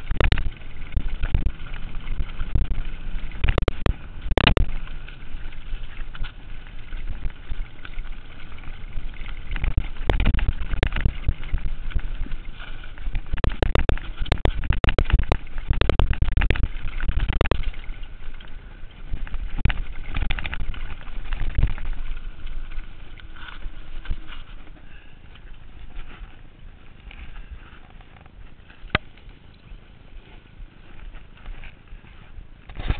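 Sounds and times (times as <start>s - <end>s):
bike rumbling over bumps: 0.0s - 32.9s.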